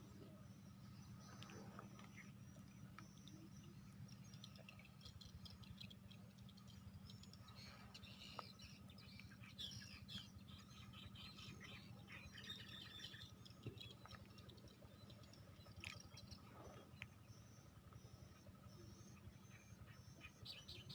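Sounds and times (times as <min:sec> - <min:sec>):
low steady hum: 0:00.0 - 0:20.9
small birds chirping: 0:00.1 - 0:20.9.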